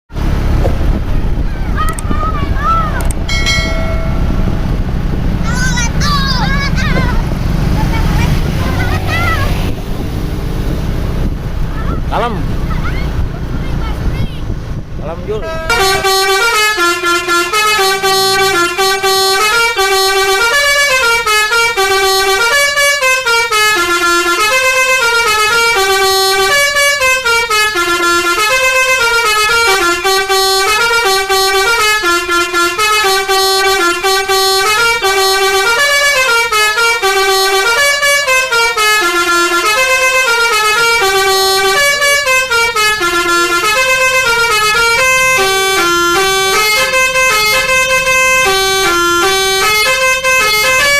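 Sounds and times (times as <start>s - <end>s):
musical bus horn melody: 0.2s - 9.8s, 15.3s - 50.9s.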